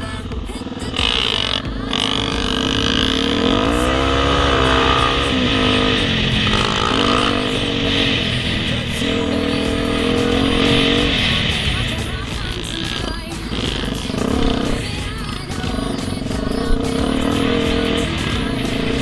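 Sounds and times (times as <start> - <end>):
racing engine revving: 0.0 - 19.0.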